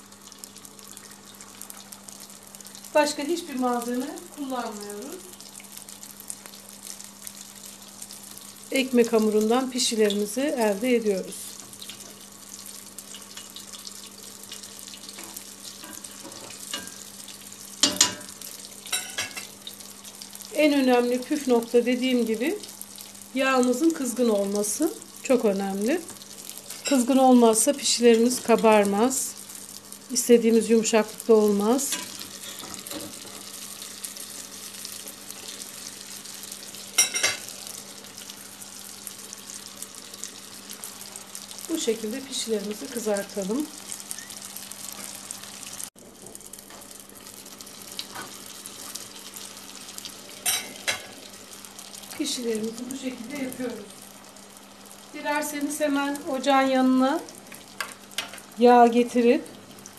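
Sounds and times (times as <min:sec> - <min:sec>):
dough sizzling in hot oil: 0:00.0 - 0:59.9.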